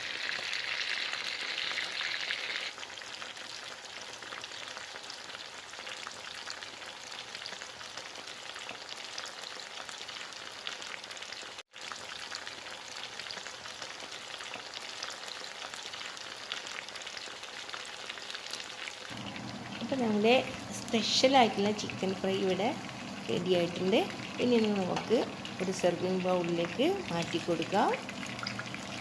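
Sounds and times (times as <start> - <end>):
chicken sizzling in oil: 0.0 - 29.0.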